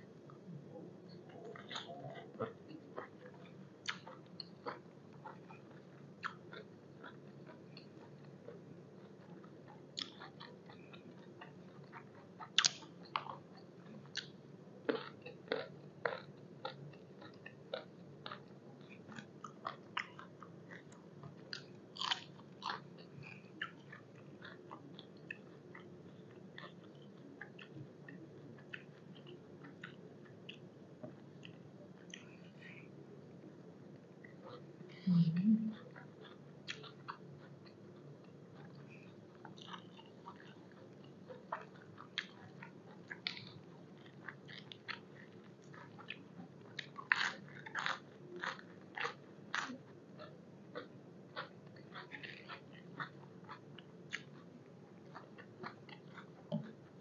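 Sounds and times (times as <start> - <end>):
person chewing food: 1.1 - 35.0, 35.6 - 57.0.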